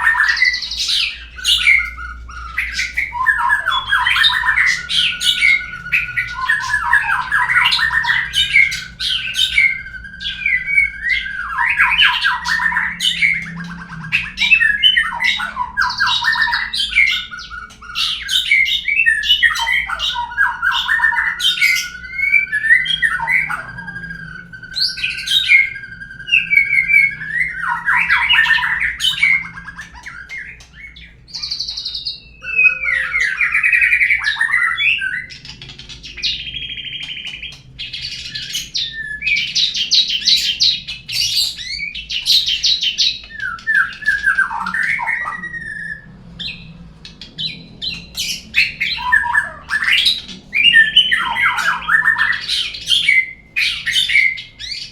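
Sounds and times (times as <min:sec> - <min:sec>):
songbird whistling and trilling: 0:00.0 - 0:54.9.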